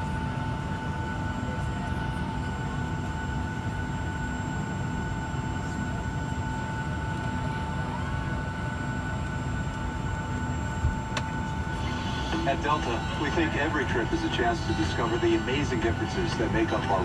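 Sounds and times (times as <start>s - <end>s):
aircraft cabin rumble: 0.0s - 17.0s
two-tone whine: 0.0s - 17.0s.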